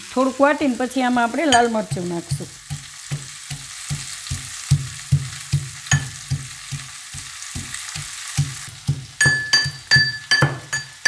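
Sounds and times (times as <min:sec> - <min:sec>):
frying sizzle: 0:00.0 - 0:11.0
pestle pounding in steel mortar: 0:01.5 - 0:11.0.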